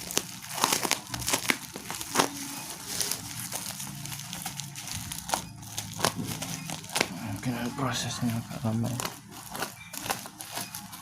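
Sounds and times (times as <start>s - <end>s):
parcel wrapping crinkling: 0.0s - 11.0s.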